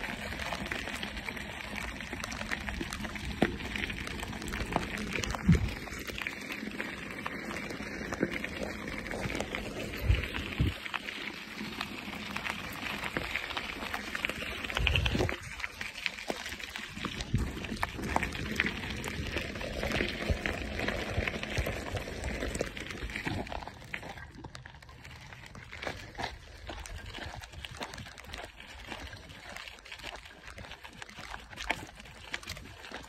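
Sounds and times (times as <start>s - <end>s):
tyres crunching on loose stones: 0.0s - 33.0s.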